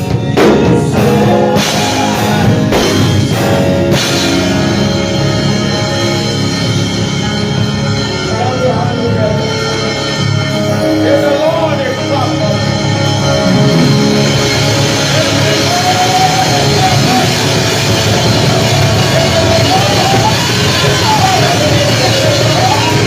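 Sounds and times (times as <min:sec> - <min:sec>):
loud band music: 0:00.0 - 0:23.0.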